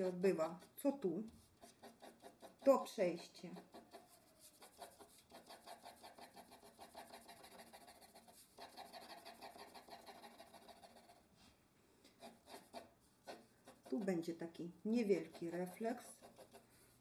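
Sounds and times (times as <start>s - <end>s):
pencil hatching on paper: 0.0s - 11.2s, 12.1s - 17.0s.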